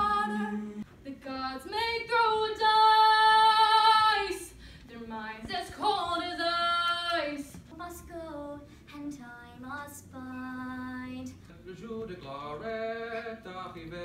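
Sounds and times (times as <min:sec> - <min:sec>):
girl singing: 0:00.0 - 0:11.4.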